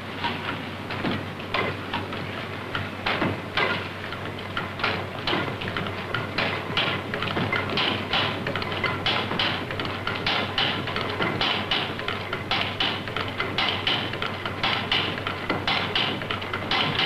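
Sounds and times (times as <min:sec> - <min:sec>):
steady mechanical clatter: 0:00.0 - 0:17.0.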